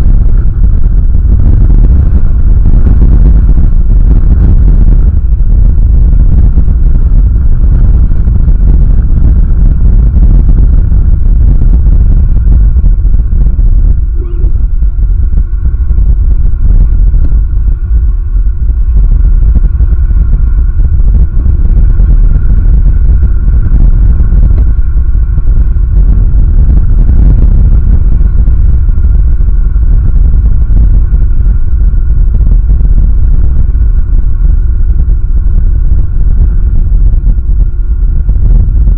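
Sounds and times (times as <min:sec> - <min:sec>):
faint steady tones: 0:00.0 - 0:38.9
wind buffeting microphone: 0:00.0 - 0:38.9.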